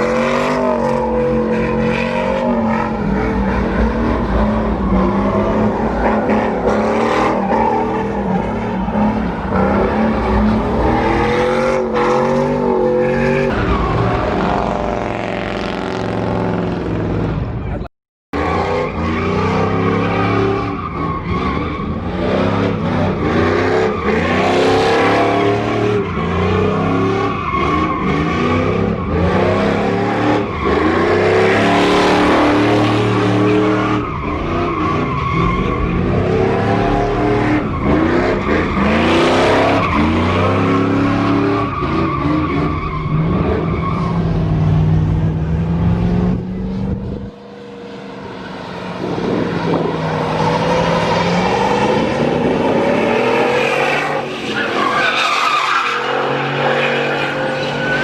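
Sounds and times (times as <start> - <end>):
tyre squeal and skidding: 0.0 - 15.0, 18.4 - 44.5, 48.3 - 58.0.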